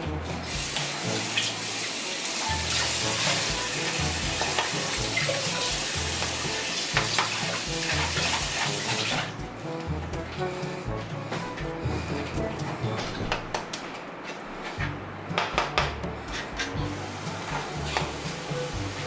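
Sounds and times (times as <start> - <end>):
background music with bass: 0.0 - 1.7, 2.5 - 13.6, 14.8 - 19.0.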